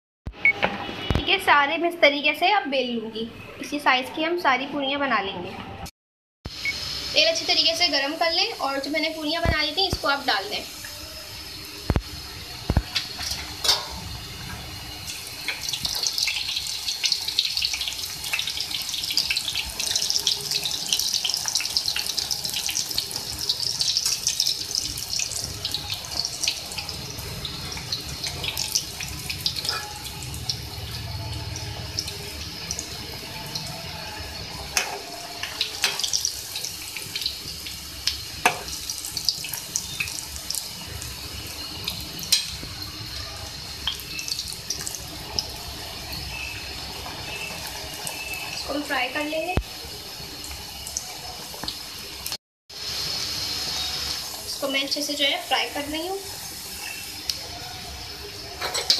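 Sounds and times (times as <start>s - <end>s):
food deep-frying in hot oil: 6.5s - 58.9s.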